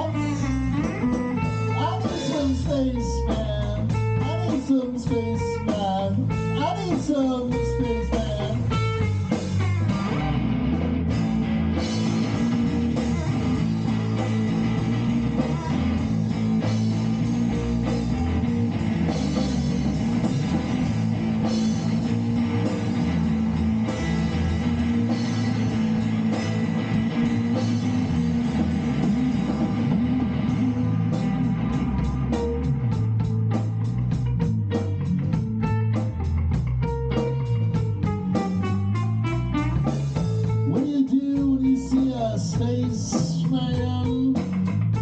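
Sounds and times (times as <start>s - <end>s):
instrumental rock band: 0.0s - 45.0s.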